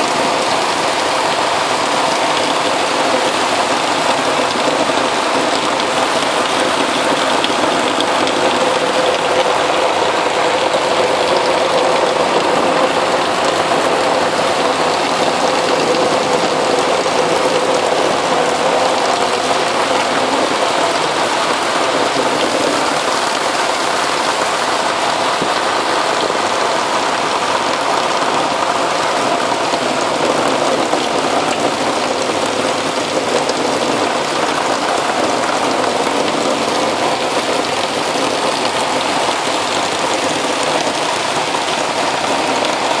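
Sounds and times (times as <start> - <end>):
heavy rain splashing on street: 0.0 - 43.0.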